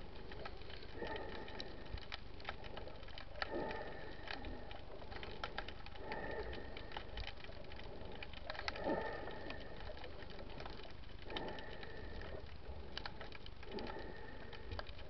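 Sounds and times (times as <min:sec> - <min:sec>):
snapping shrimp clicks underwater: 0:00.0 - 0:15.0.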